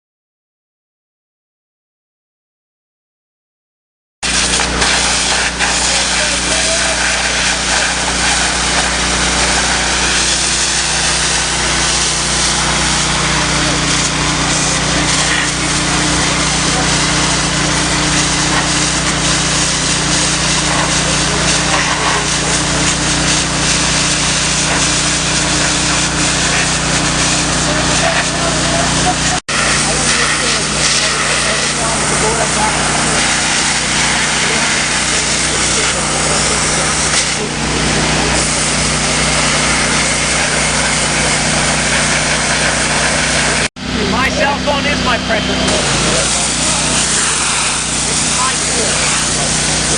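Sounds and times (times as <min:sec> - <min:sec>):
high-pressure water jet hissing: 0:04.2 - 0:49.9
pressure washer engine droning: 0:04.2 - 0:49.9.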